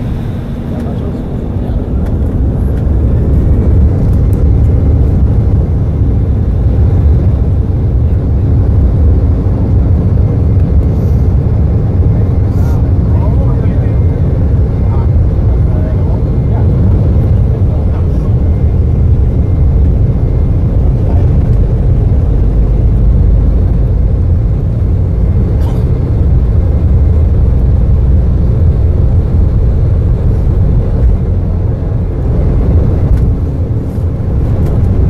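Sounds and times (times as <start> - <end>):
jet engines and wheels rumbling: 0.0 - 35.0.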